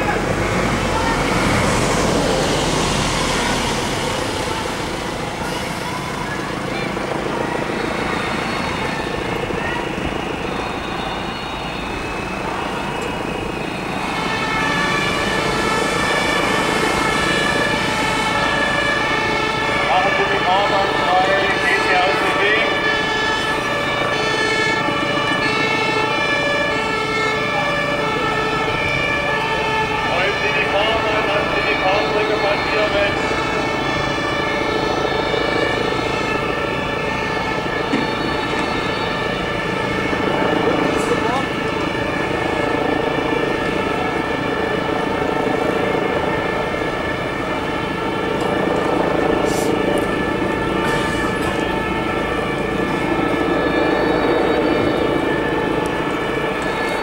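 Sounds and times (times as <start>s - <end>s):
bus passing: 0.0s - 57.0s
city traffic: 0.0s - 57.0s
diesel engine rumbling: 0.0s - 57.0s.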